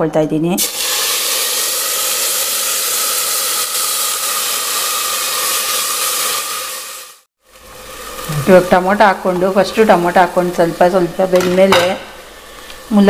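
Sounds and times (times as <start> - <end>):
tomatoes sizzling in hot oil: 0.6 - 13.0.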